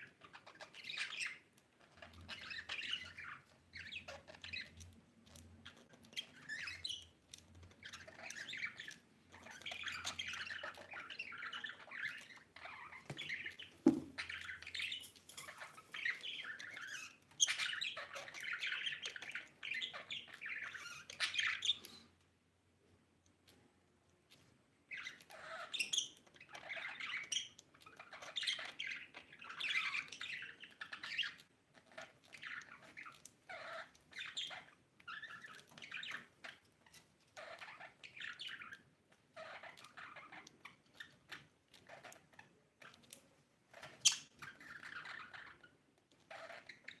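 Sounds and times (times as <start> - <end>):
budgies chirping and squawking: 0.0 - 22.1, 24.9 - 47.0.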